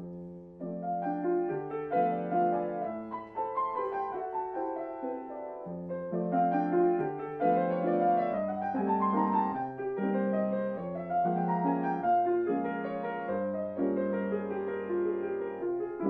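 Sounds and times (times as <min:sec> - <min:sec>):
solo piano piece: 0:00.0 - 0:16.0.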